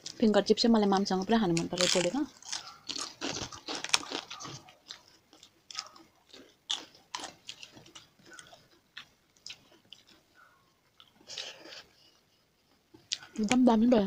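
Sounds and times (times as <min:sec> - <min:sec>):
chewing crunchy fried food: 0:00.8 - 0:13.7.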